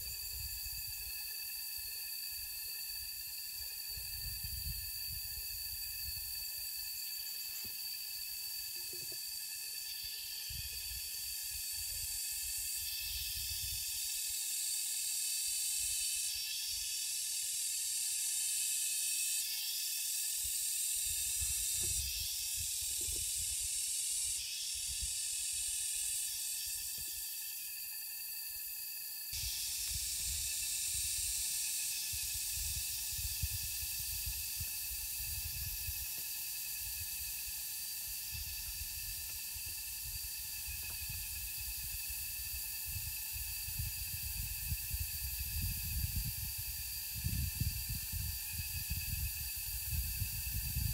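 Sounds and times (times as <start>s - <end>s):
insects whining: 0.0s - 50.9s
steady high hiss: 0.0s - 50.9s.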